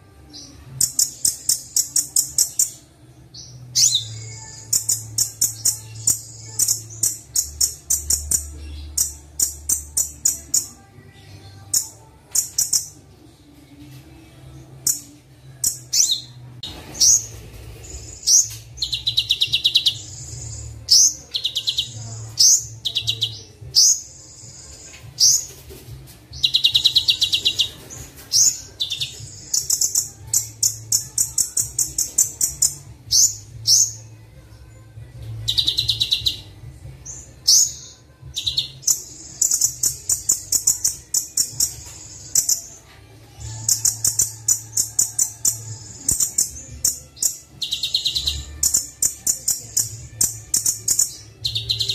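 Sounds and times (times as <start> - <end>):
birdsong chirps and trills: 0.0 - 51.9.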